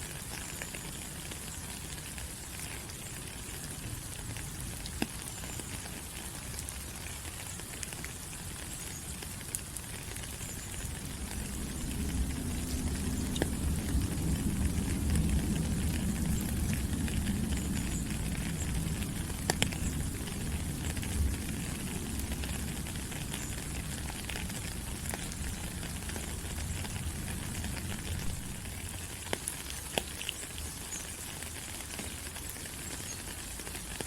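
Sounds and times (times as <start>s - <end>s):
rain falling on leaves: 0.0s - 34.0s.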